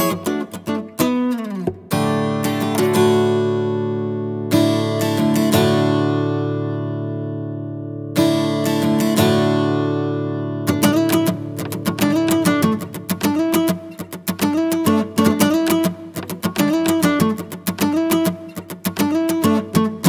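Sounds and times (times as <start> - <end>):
acoustic guitar plucking and strumming: 0.0 - 20.0.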